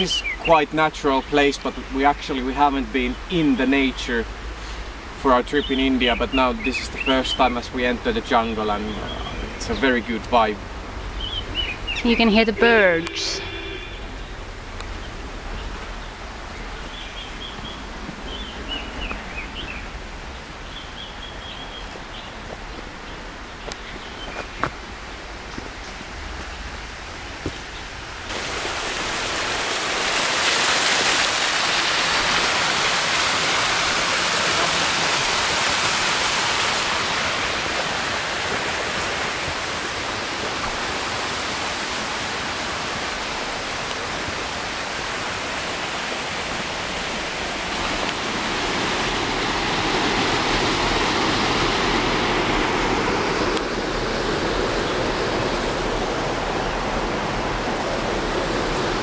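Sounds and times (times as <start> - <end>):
cascading water rushing: 0.0 - 59.0.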